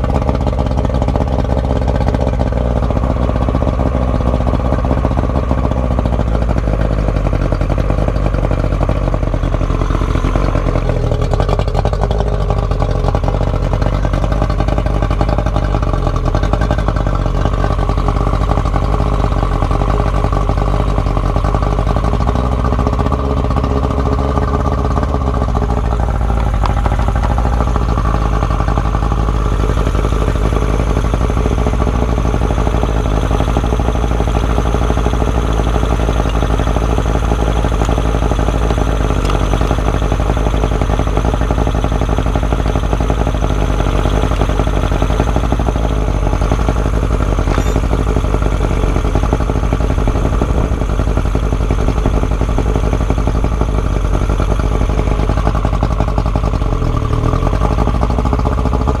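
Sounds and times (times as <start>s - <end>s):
outboard motor idling: 0.0s - 59.0s.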